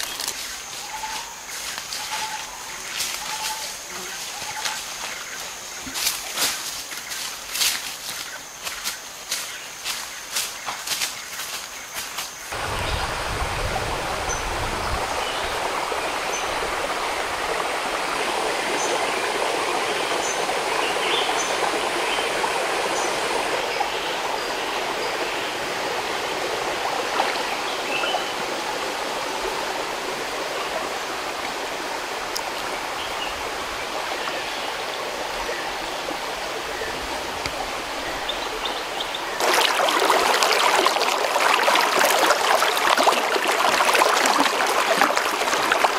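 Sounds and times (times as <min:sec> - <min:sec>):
stream running over pebbles: 0:00.0 - 0:45.9.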